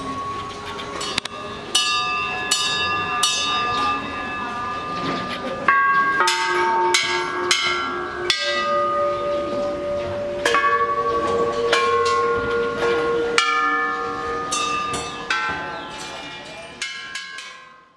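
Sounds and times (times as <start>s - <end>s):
metal temple bells ringing: 0.0s - 17.9s.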